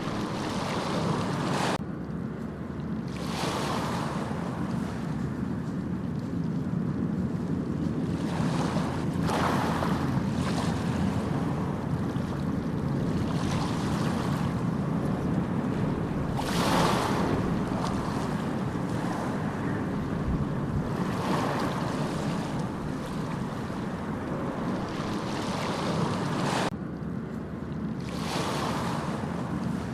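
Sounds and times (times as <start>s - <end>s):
small waves washing on sand: 0.0s - 1.8s, 3.1s - 6.5s, 7.5s - 26.7s, 28.0s - 29.9s
low rumble of surf: 0.0s - 29.9s.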